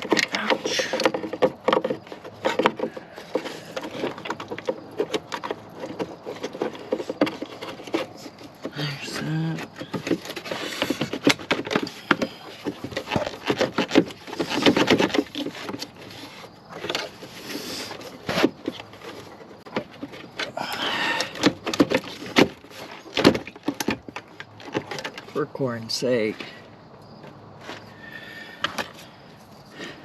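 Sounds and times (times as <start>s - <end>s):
car parts clicking and knocking: 0.0s - 30.0s.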